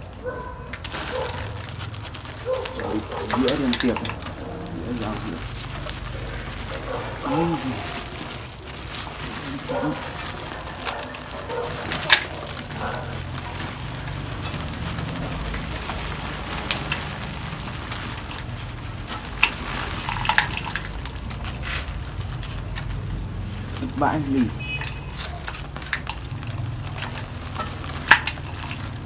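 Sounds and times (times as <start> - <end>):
soil scraping and crackling: 0.0 - 29.0.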